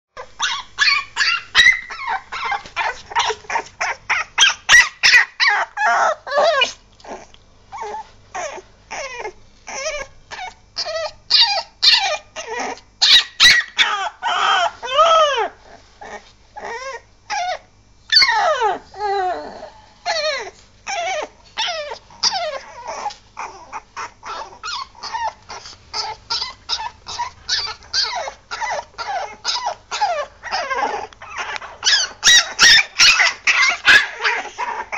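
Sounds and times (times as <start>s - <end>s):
puppy yelping and whining: 0.2s - 34.9s
puppy squealing: 0.3s - 34.9s.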